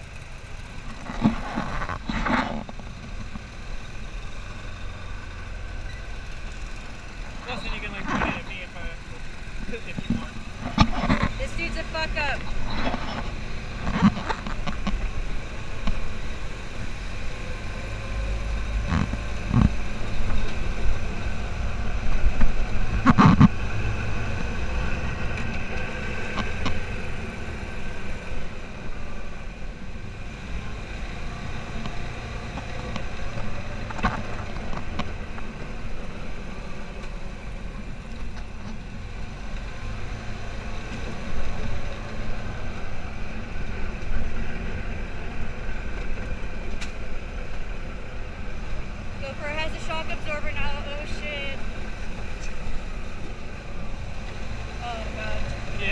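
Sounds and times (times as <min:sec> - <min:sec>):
buggy engine running: 0:00.0 - 0:55.9.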